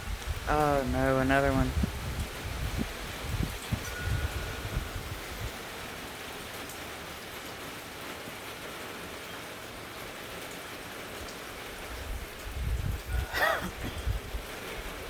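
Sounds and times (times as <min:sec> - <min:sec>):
rain falling steadily: 0:00.0 - 0:15.0.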